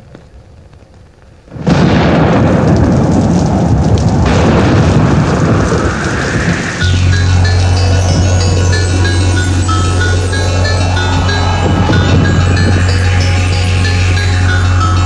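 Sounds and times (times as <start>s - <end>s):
heavy rain: 0.0s - 15.0s
loud thunder rumble: 1.5s - 15.0s.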